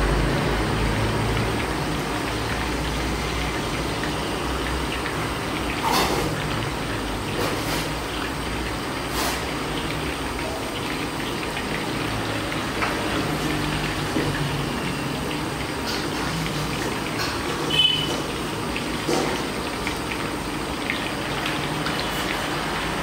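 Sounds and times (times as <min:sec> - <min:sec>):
chicken deep-frying in oil: 0:00.0 - 0:23.0
sharp oil crackles: 0:00.0 - 0:23.0.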